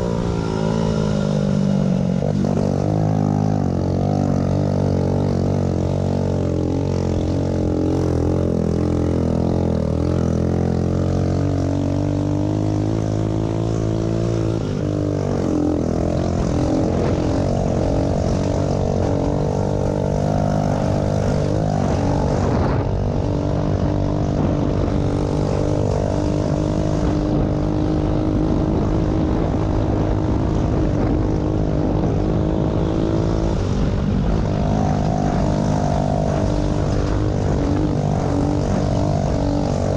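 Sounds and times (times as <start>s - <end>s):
pit bike engines running: 0.0s - 39.9s.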